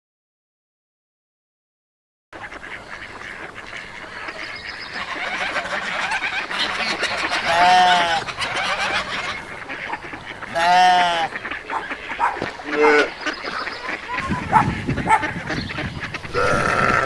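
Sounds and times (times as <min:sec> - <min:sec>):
geese and ducks calling: 0:02.4 - 0:17.0
loud drawn-out bird call: 0:02.6 - 0:17.0.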